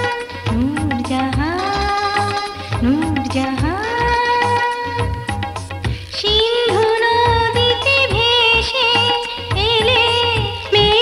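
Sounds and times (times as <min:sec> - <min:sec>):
instrumental accompaniment: 0:00.0 - 0:11.0
steady low drum beat: 0:00.0 - 0:11.0
woman singing: 0:00.0 - 0:11.0.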